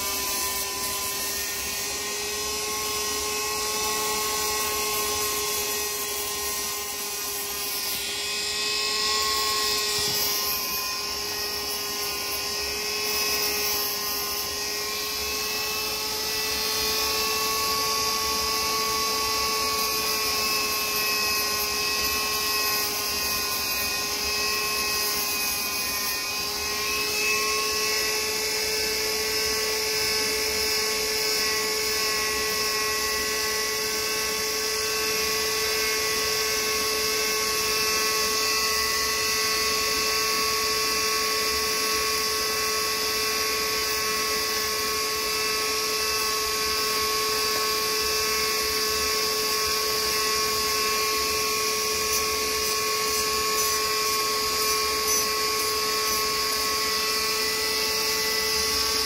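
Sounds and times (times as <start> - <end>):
power tool motor whine: 0.0 - 59.0.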